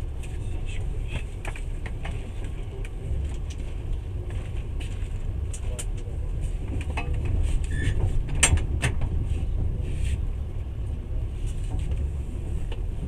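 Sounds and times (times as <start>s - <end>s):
train running gear rumble: 0.0s - 13.0s.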